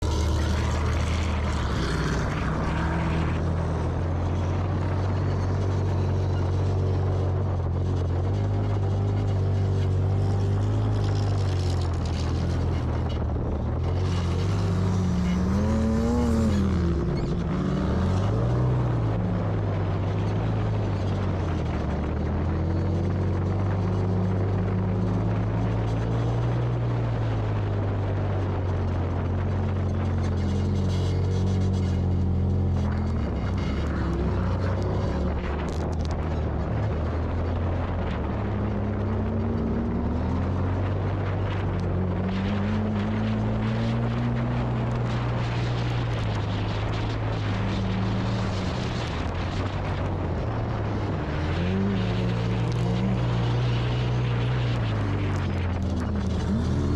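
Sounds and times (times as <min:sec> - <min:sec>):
off-road vehicle engines running: 0:00.0 - 0:56.9.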